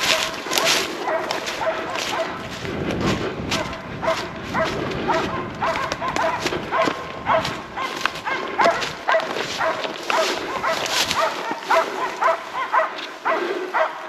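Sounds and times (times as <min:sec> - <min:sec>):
dog barking: 0:00.0 - 0:02.6, 0:03.5 - 0:14.0
footsteps in dry grass: 0:00.0 - 0:14.0.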